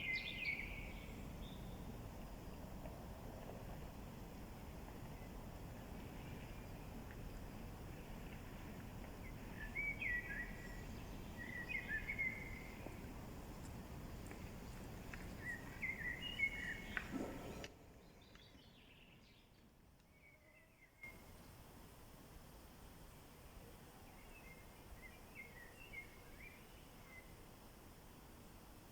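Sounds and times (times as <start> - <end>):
songbird singing: 0.0 - 2.7, 4.1 - 21.7, 23.1 - 27.5
outdoor background noise: 0.0 - 28.9.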